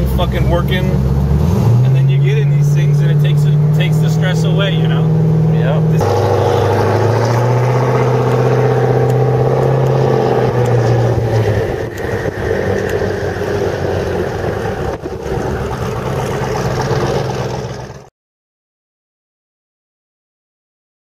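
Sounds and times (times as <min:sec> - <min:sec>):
car engine cruising: 0:00.0 - 0:18.1.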